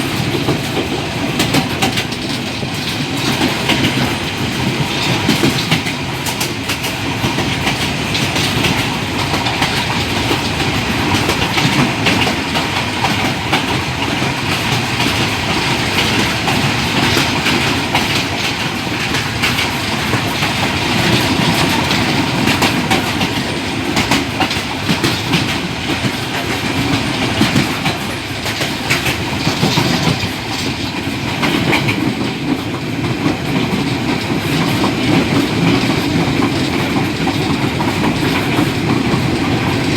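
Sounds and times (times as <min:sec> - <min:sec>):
train carriage rumbling: 0:00.0 - 0:39.9
train wheels knocking and clacking: 0:00.0 - 0:39.9.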